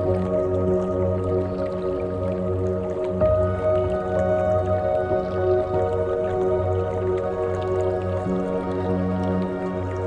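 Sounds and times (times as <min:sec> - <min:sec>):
soft sustained background music: 0:00.0 - 0:10.0.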